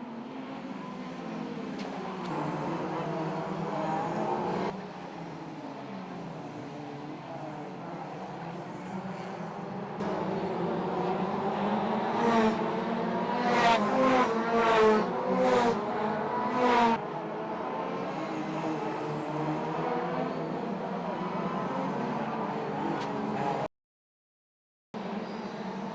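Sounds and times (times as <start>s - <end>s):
race cars passing at high revs: 0.0s - 23.7s.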